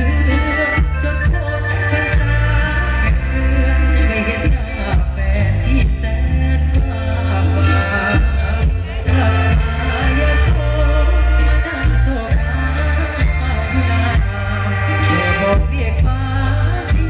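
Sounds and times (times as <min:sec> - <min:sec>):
heavy pulsing bass beat: 0:00.0 - 0:17.0
live band music through pa: 0:00.0 - 0:17.0.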